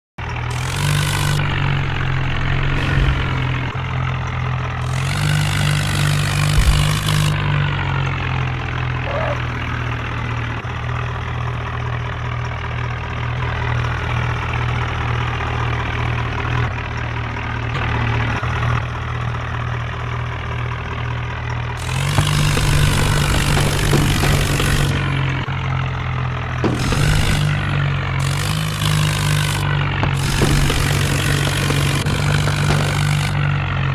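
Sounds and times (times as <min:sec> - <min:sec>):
diesel tractor engine idling and revving: 0:00.2 - 0:33.9.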